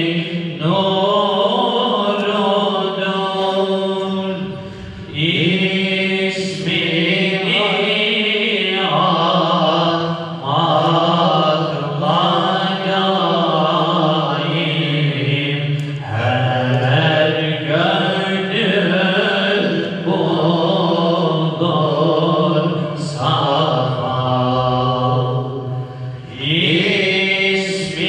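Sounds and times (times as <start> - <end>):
men chanting a hymn: 0.0 - 28.0.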